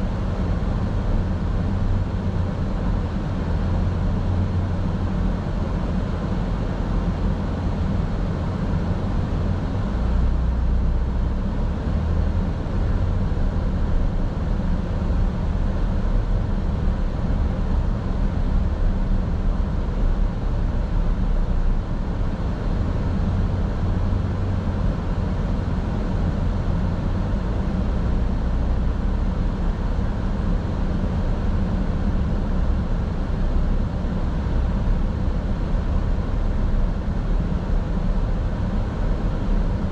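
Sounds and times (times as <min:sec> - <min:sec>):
car driving rumble: 0:00.0 - 0:39.9
road and engine noise in cabin: 0:00.0 - 0:39.9.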